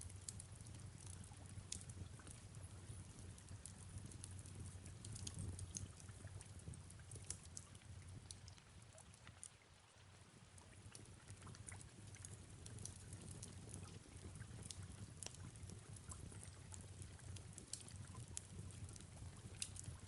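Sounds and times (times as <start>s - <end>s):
fireplace crackling: 0.0s - 9.5s, 10.6s - 20.0s
soft steady rain: 0.0s - 20.0s.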